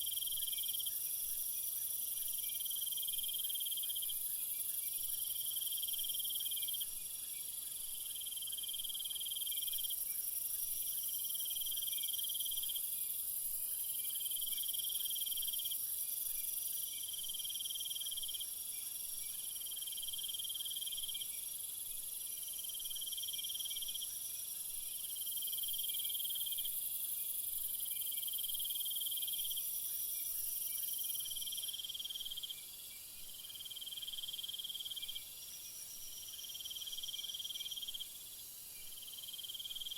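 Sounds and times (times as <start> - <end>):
high-pitched insect hiss: 0.0 - 39.9.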